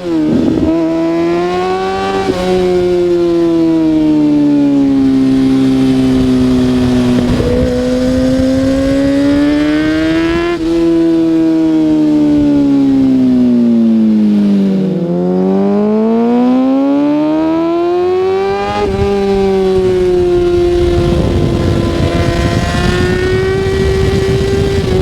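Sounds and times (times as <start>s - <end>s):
motorcycle engine running hard: 0.0s - 25.0s.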